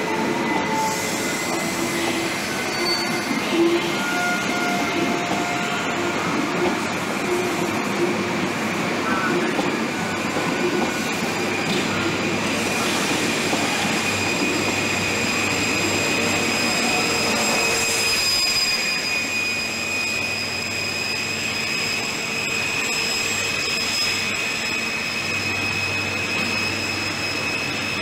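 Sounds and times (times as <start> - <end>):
diesel engine high whistle: 0.0 - 8.1, 8.8 - 28.0
train coaches rolling past: 0.0 - 28.0.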